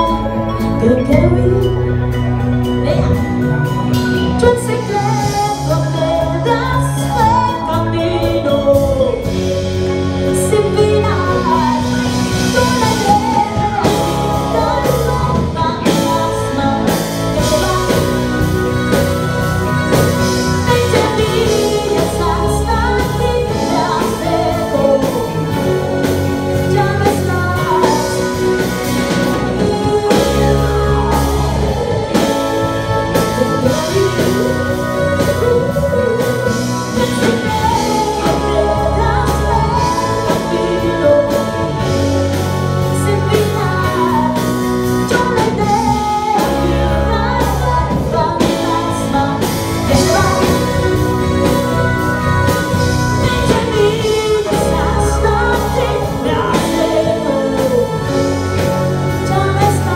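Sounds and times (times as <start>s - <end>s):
live pop-rock band: 0.0s - 59.9s
woman singing lead vocals: 0.0s - 59.9s.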